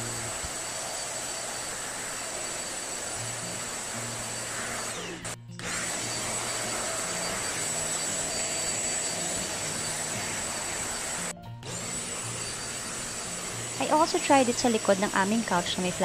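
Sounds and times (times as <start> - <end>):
stick vacuum motor whine: 0.0 - 16.0.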